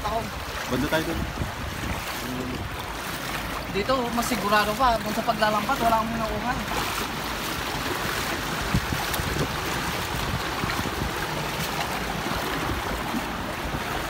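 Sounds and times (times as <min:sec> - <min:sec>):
feet sloshing through water: 0:00.0 - 0:14.0
seawater rushing and splashing: 0:00.0 - 0:14.0.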